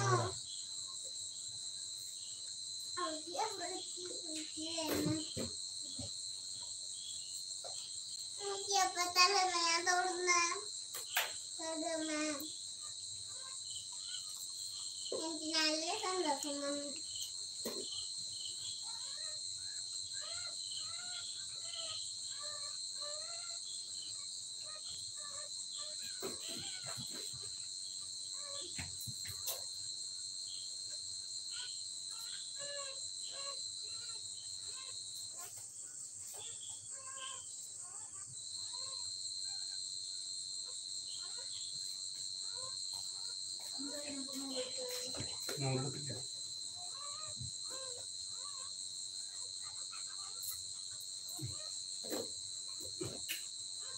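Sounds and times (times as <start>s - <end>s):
shrill insect chorus: 0.0s - 53.9s.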